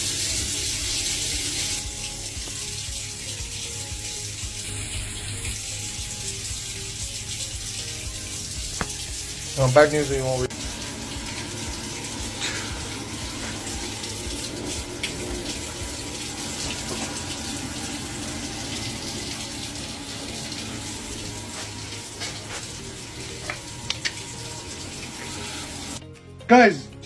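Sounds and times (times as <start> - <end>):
water running from a tap: 0.0 - 26.0.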